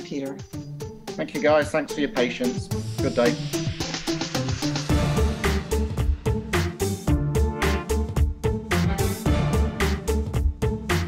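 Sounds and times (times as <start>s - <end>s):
upbeat music with drums and bass: 0.0s - 11.0s.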